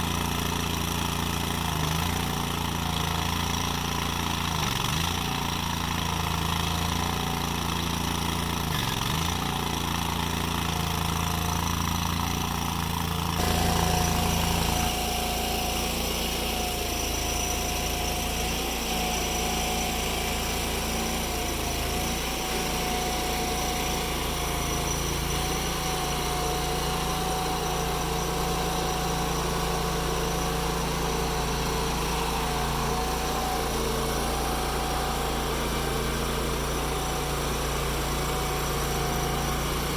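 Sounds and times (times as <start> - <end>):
engine-driven machinery running: 0.0 - 39.9.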